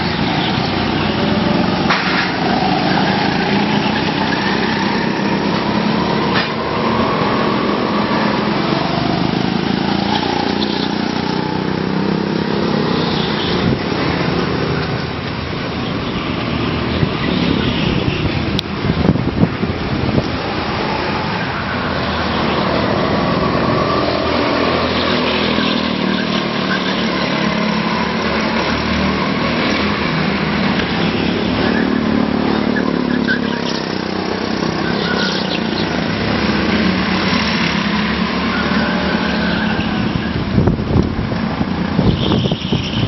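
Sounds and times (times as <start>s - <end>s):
go-kart engine running: 0.0s - 19.3s, 19.9s - 43.0s.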